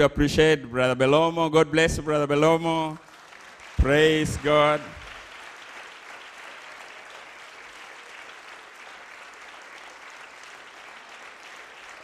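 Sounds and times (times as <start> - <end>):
congregation applauding: 2.1 - 12.0.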